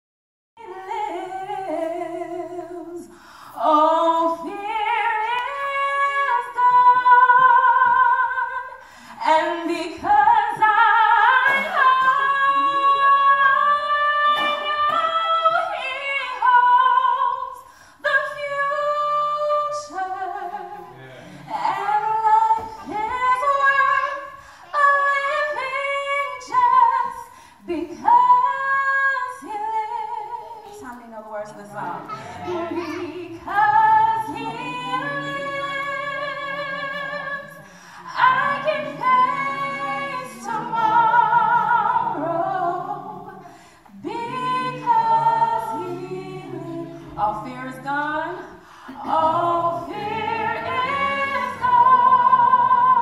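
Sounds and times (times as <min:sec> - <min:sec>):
woman singing into microphone: 0:00.6 - 0:20.8, 0:21.5 - 0:53.0.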